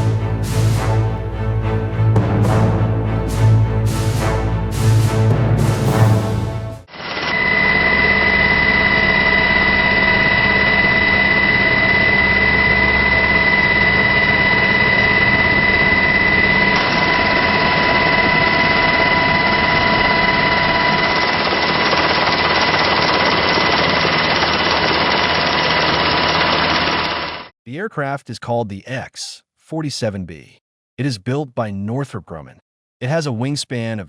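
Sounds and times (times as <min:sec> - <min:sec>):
jet engine running: 0:00.0 - 0:27.5.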